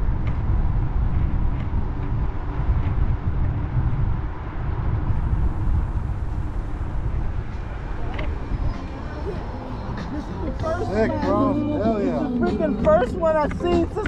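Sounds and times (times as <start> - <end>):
tyre noise on paved path: 0.0 - 14.0
wind buffeting microphone: 0.0 - 14.0.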